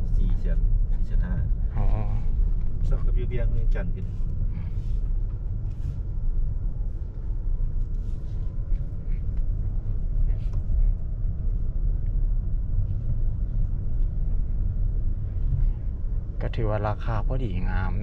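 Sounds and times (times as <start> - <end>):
car road and tyre noise: 0.0 - 18.0.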